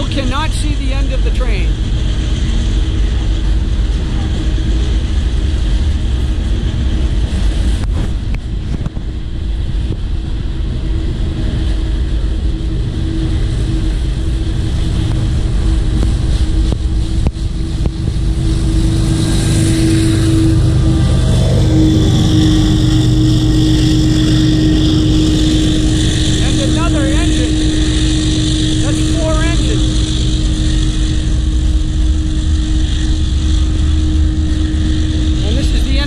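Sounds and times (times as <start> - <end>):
freight train rumbling on rails: 0.0 - 36.0
steady hum: 0.0 - 36.0.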